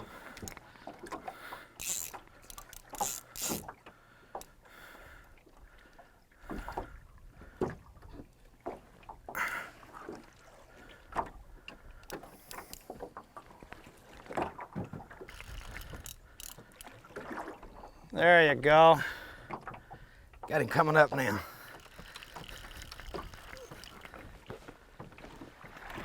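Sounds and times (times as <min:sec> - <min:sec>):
water splashing against hull: 0:00.0 - 0:26.0.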